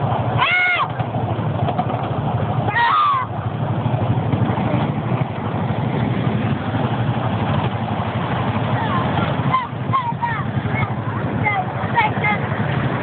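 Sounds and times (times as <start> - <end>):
mini train rumbling: 0.0 - 13.0.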